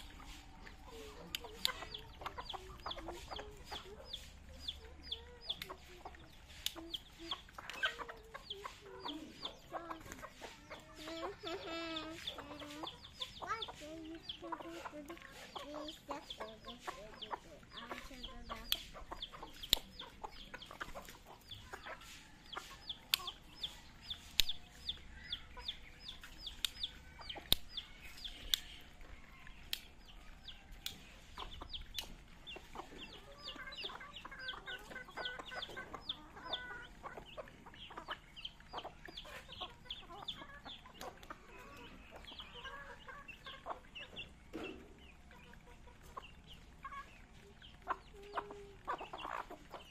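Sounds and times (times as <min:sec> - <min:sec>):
beaks pecking on concrete: 0:00.0 - 0:49.9
chicks peeping: 0:00.0 - 0:49.9
hens clucking: 0:00.0 - 0:49.9.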